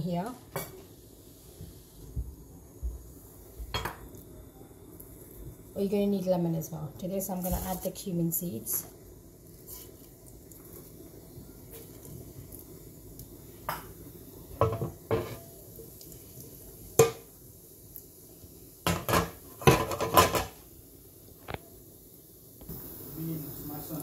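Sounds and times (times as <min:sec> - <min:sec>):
seeds sizzling in hot oil: 0:00.0 - 0:24.0.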